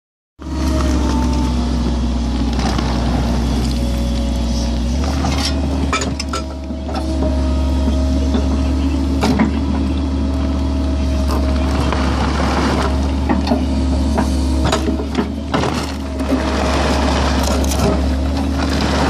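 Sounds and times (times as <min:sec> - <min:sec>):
excavator engine running: 0:00.4 - 0:19.0.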